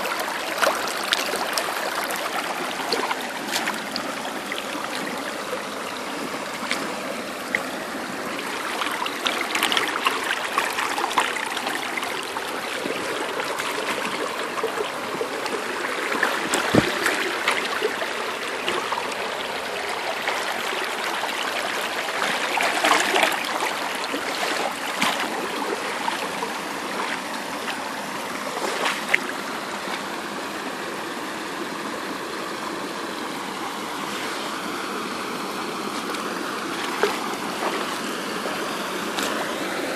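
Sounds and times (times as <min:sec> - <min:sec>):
water splashes: 0:00.0 - 0:31.4, 0:33.3 - 0:39.9
creek water babbling over gravel: 0:00.0 - 0:39.9.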